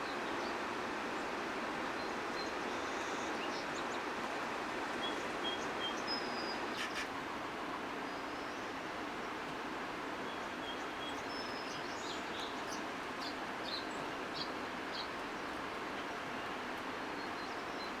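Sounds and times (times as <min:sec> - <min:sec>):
steady outdoor noise: 0:00.0 - 0:18.0.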